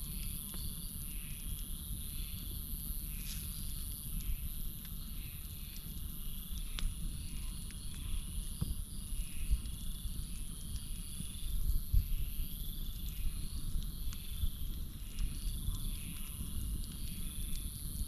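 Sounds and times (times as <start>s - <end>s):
campfire crackling: 0.0s - 18.0s
crickets high drone: 0.0s - 18.0s.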